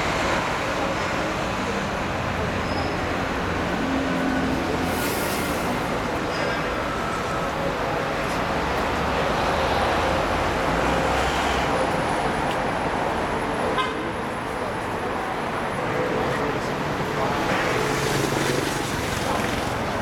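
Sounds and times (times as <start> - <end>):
busy road traffic: 0.0 - 20.0.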